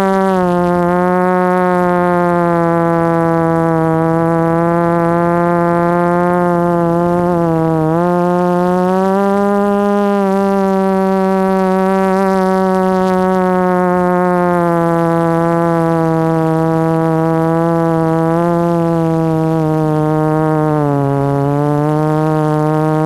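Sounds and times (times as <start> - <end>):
model aircraft propeller buzzing: 0.0 - 23.0.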